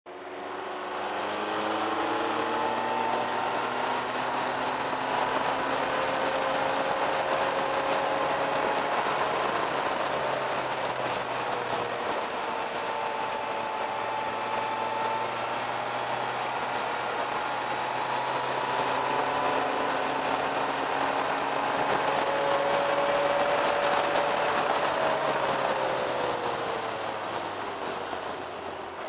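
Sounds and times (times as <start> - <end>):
motorcycle engine cruising: 0.1 - 29.0
road noise: 0.1 - 29.0.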